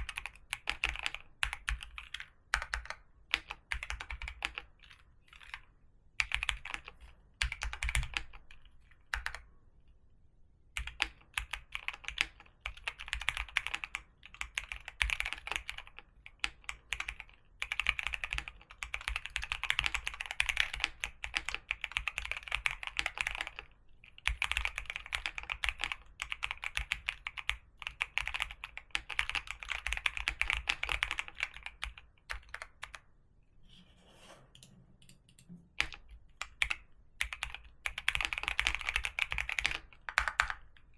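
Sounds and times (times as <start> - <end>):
typing on computer keyboard: 0.0 - 9.4, 10.8 - 33.0, 34.6 - 40.9.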